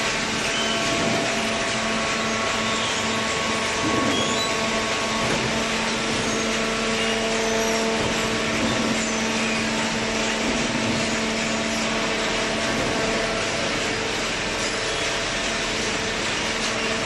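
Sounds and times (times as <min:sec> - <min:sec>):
motor and hydraulic pump humming: 0:00.0 - 0:17.0.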